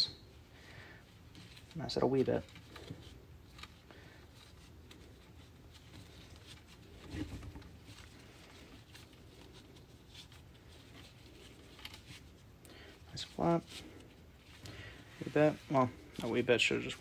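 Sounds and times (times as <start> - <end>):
webbing rustling through buckle: 1.0 - 17.0.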